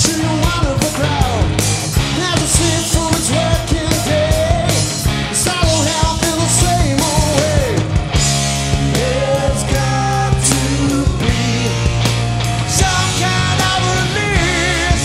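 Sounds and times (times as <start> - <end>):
live blues-rock band playing: 0.0 - 15.0.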